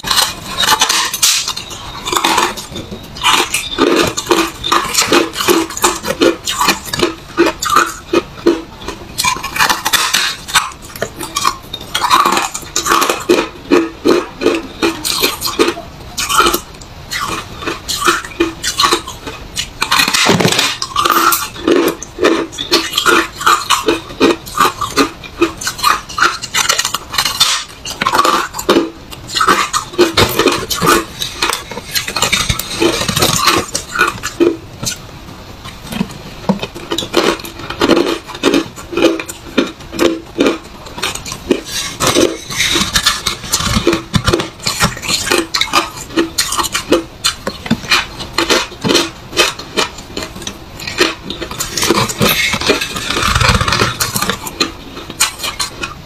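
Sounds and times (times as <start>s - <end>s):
frost crunching: 0.0s - 56.0s.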